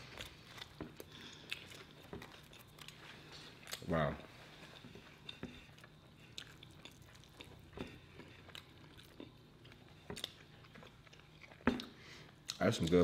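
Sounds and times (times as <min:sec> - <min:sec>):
chewing and lip smacks: 0:00.0 - 0:04.0, 0:04.6 - 0:13.0
faint steady hum: 0:00.0 - 0:13.0.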